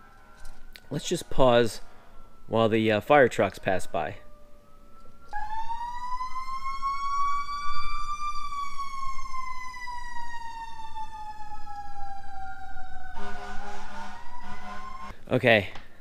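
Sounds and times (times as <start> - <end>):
fire truck sirens wailing: 0.0 - 15.2.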